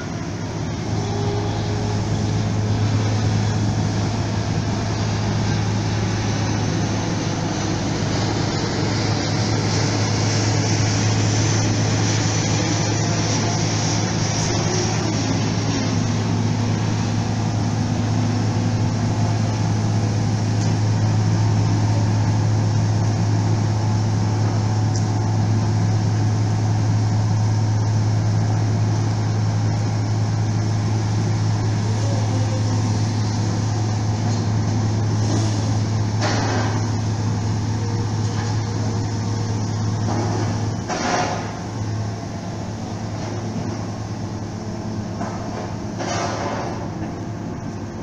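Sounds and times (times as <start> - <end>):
ship machinery droning: 0.0 - 48.0.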